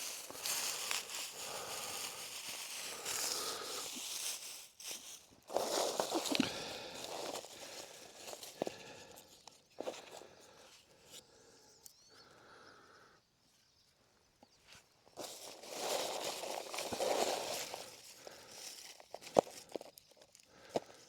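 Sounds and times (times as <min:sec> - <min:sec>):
rustling and handling noises: 0:00.0 - 0:11.2, 0:14.5 - 0:21.0.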